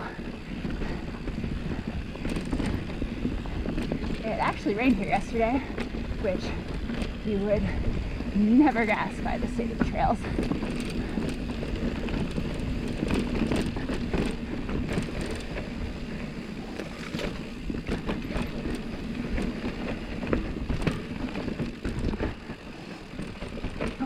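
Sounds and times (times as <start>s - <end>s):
bike tyres rumbling on dirt: 0.0s - 24.0s
wind on microphone: 0.0s - 24.0s
bike clattering over rocks: 0.3s - 24.0s.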